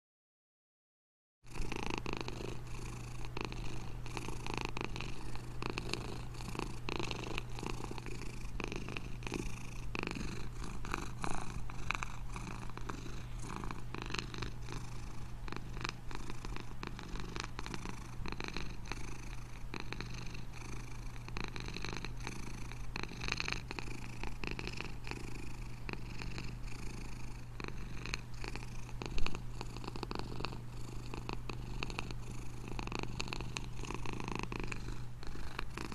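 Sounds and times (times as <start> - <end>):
cat purring: 1.5 - 35.9.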